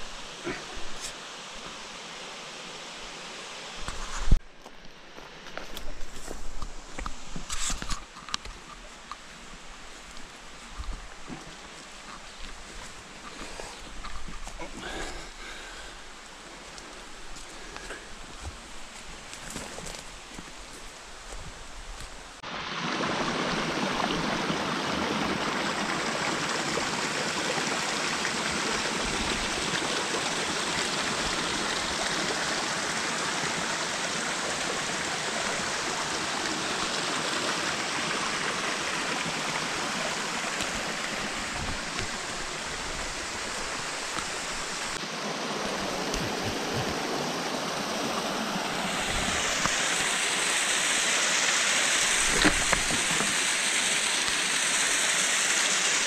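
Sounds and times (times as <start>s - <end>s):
stream rushing over rocks: 0.0s - 4.4s, 5.8s - 56.0s.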